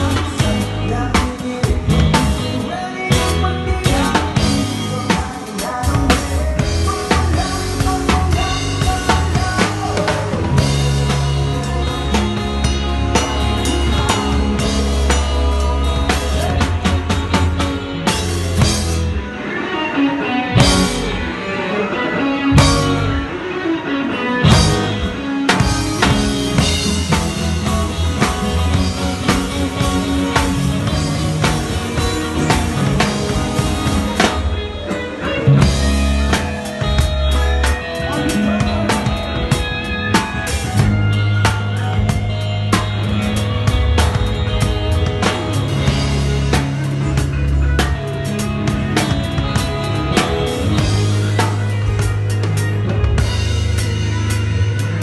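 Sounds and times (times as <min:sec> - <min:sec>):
drum kit groove: 0:00.0 - 0:19.8, 0:20.5 - 0:21.6, 0:22.4 - 0:55.0
live band playing: 0:00.0 - 0:55.0
sustained bass notes: 0:00.0 - 0:55.0.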